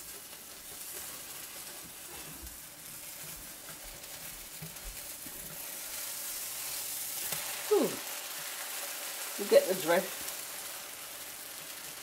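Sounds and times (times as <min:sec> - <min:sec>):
batter sizzling in a frying pan: 0:00.0 - 0:12.0.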